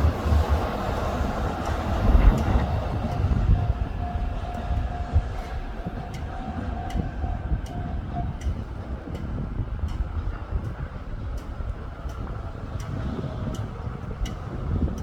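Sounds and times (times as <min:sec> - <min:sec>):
electric train rumbling: 0:00.0 - 0:15.0
train clicks: 0:00.0 - 0:15.0.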